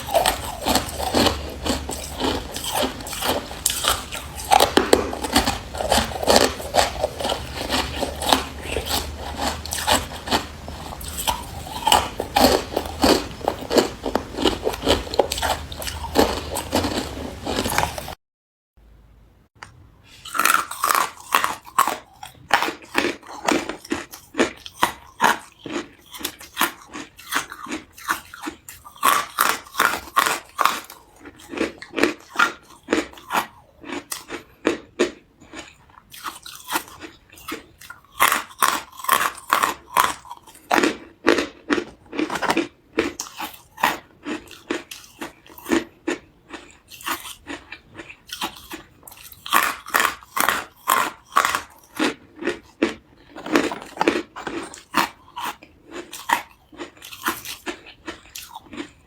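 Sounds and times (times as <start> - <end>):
crunching and chewing ice: 0.0 - 18.2, 20.1 - 59.0.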